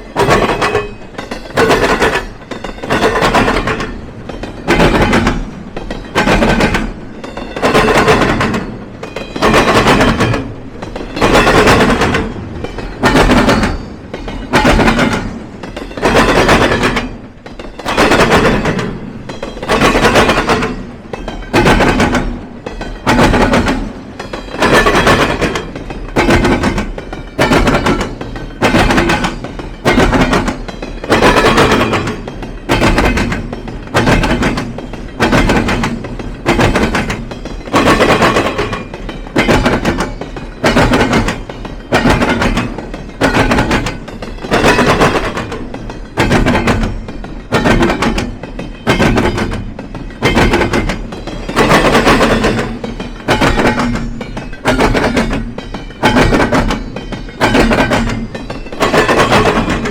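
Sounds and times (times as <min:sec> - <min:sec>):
train wheels clattering over crossing: 0:00.0 - 0:59.9.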